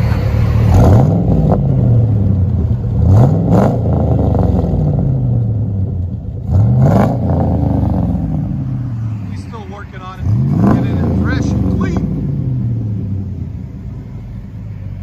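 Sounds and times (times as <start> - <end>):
vee eight engine revving: 0.0 - 15.0.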